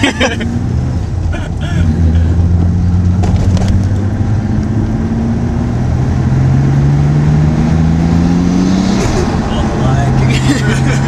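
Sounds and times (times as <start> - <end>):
car engine running from inside cabin: 0.0 - 11.0.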